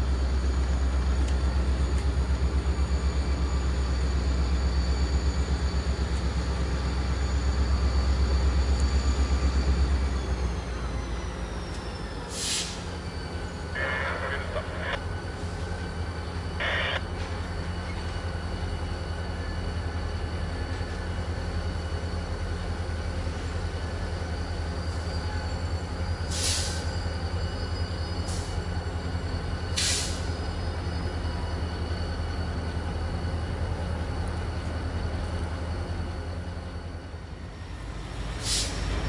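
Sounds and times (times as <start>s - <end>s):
diesel locomotive engine droning: 0.0s - 39.0s.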